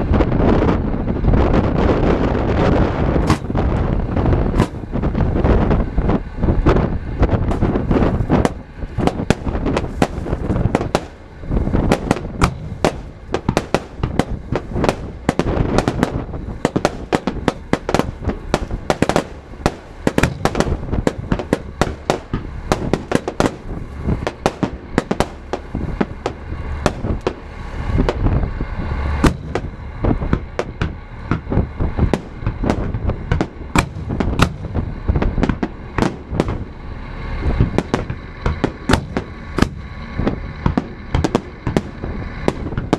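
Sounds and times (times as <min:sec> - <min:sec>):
fireworks bursts and bangs: 0:00.0 - 0:28.5, 0:29.2 - 0:36.7, 0:37.4 - 0:42.9
low rumble: 0:00.0 - 0:42.9.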